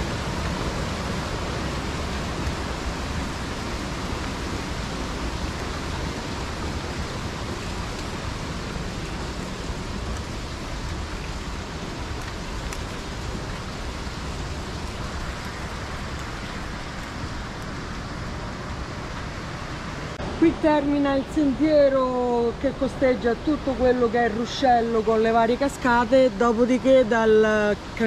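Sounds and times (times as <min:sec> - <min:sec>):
stream with small waterfalls: 0:00.0 - 0:28.0.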